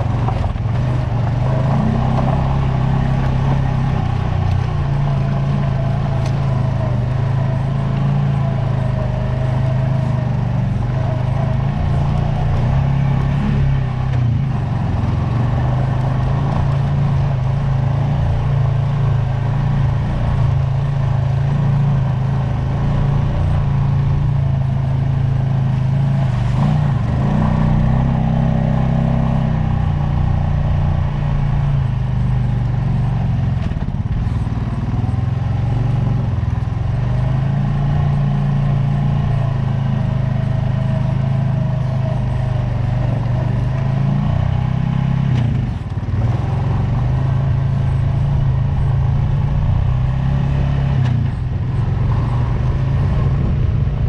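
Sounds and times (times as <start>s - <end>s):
off-road vehicle engine running: 0.0s - 54.0s.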